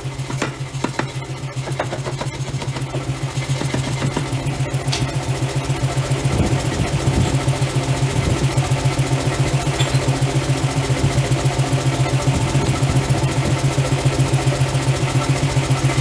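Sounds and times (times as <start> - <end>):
forging machinery pulsing: 0.0 - 13.4.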